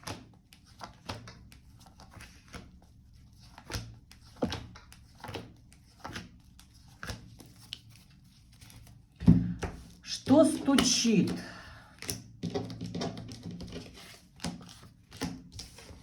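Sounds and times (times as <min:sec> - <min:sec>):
cards tapping and rustling on table: 0:00.0 - 0:11.4, 0:12.0 - 0:16.0.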